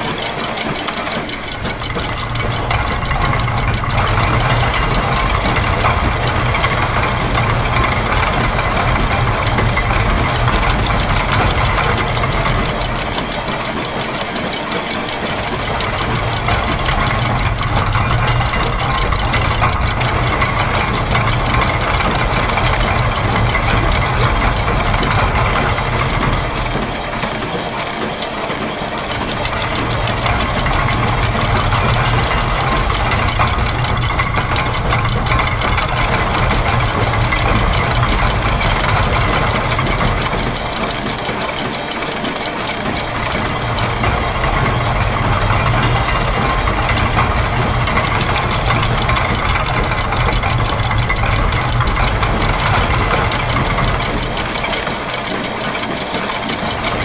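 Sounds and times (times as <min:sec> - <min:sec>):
low machine rumble: 0:00.0 - 0:57.0
mechanical ticking and rattling: 0:00.0 - 0:57.0.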